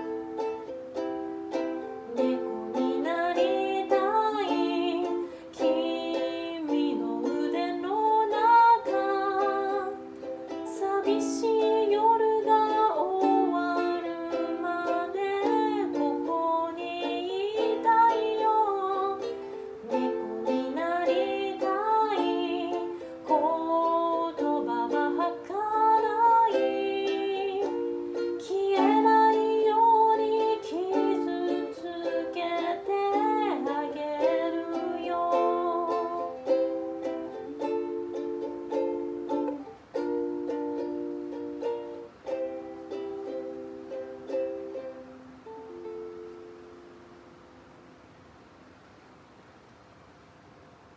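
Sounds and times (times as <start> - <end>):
person singing: 0.0 - 46.9
ukulele playing: 0.0 - 48.0.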